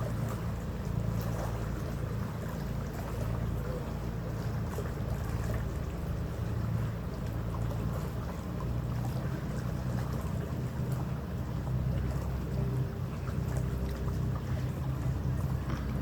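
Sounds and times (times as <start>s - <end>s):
ferry engines droning: 0.0s - 16.0s
wind and water rushing: 0.0s - 16.0s.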